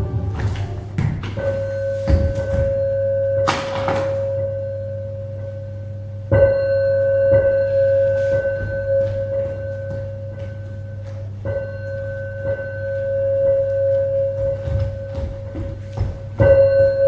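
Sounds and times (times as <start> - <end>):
bell-like ringing tone: 1.4 - 17.0.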